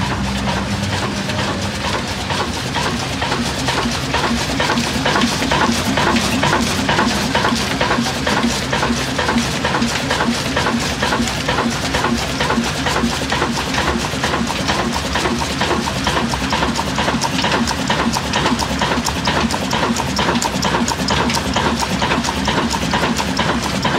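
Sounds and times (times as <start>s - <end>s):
stationary diesel engine running: 0.0s - 23.9s.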